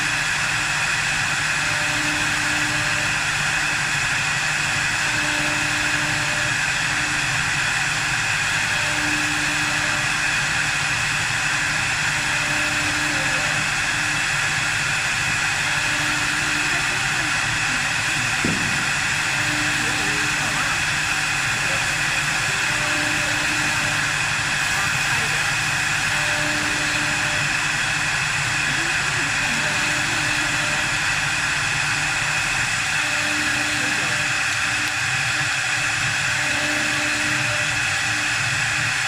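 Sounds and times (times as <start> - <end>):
lathe motor hum: 0.0 - 39.0.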